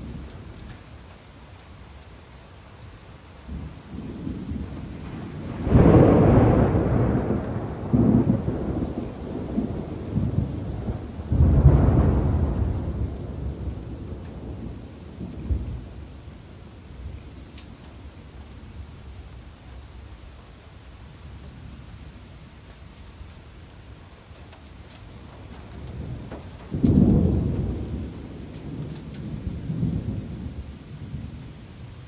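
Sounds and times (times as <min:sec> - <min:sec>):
rain hiss: 0:00.0 - 0:32.0
thunder rumbling: 0:03.3 - 0:32.0.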